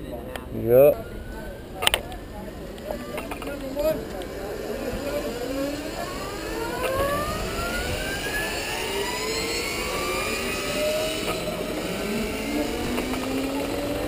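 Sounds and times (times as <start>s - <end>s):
electric motorcycles accelerating: 0.0s - 14.0s.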